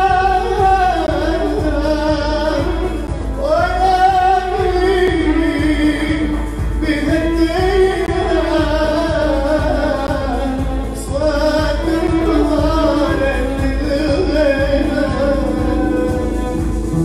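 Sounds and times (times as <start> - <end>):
electric violin: 0.0 - 17.0
electronic keyboard: 0.0 - 17.0
man singing into a microphone: 0.0 - 17.0.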